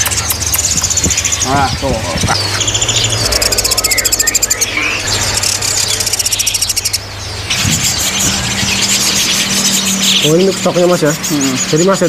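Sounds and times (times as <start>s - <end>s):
caged birds trilling and chirping: 0.0s - 12.0s
low steady hum: 0.0s - 12.0s.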